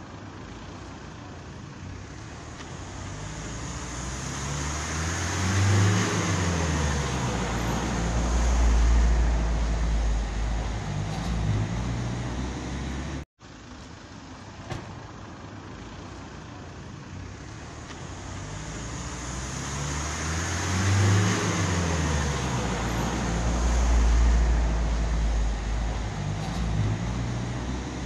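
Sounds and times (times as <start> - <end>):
traffic hum: 0.0 - 28.0
vehicle engine running close by: 0.0 - 28.0
passing vehicle engine: 1.1 - 13.2, 15.3 - 28.0.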